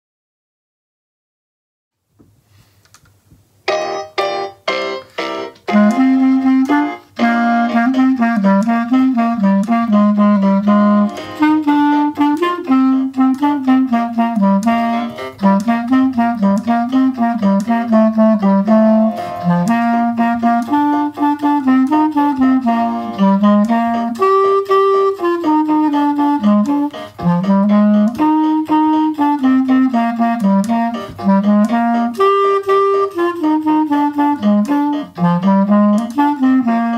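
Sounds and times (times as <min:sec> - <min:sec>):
clarinet playing a quick melody: 0:05.7 - 0:36.9.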